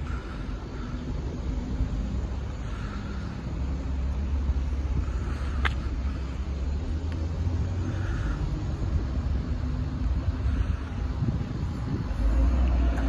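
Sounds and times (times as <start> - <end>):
vehicles idling rumble: 0.0 - 13.0.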